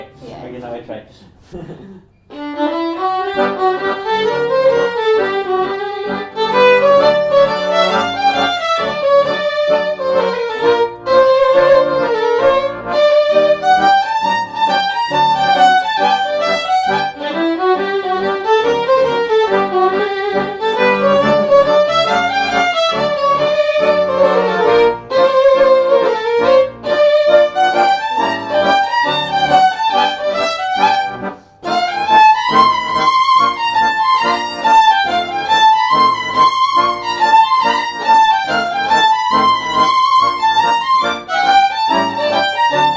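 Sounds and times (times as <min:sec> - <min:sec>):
violin folk melody: 0:00.0 - 0:00.8, 0:02.3 - 0:42.9.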